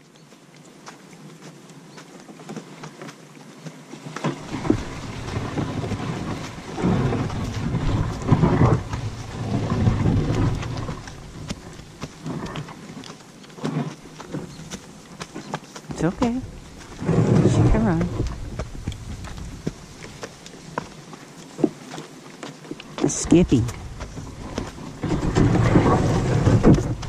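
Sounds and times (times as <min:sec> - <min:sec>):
sled sliding over grass and dirt: 0:00.0 - 0:27.0.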